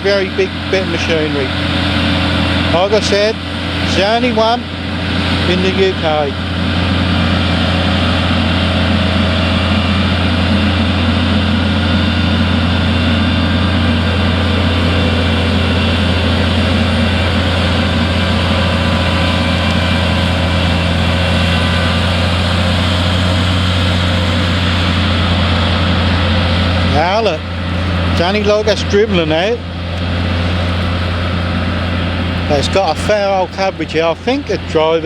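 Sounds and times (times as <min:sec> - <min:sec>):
tanker engine humming: 0:00.0 - 0:35.0.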